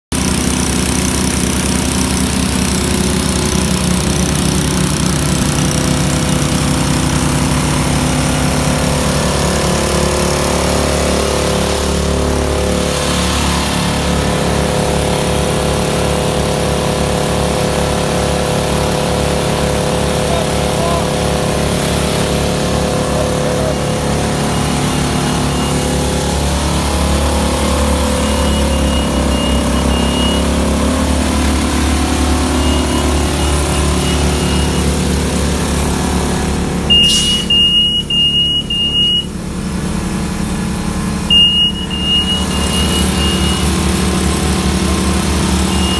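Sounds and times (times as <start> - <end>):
petrol water pumps running: 0.1 - 45.9.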